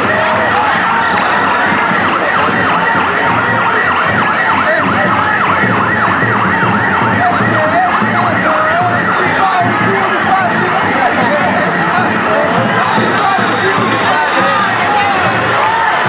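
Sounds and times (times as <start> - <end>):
crowd noise: 0.0 - 16.0
siren wailing: 0.0 - 16.0.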